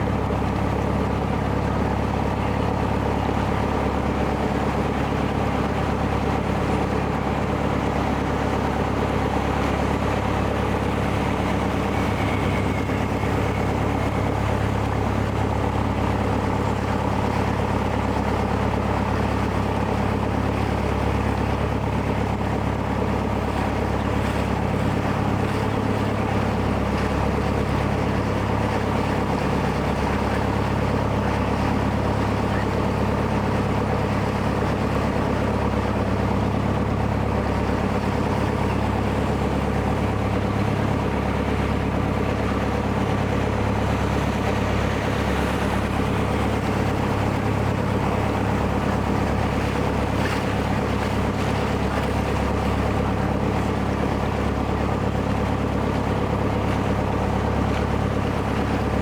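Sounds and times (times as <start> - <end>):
boat engine droning: 0.0 - 59.0
water noise: 0.0 - 59.0.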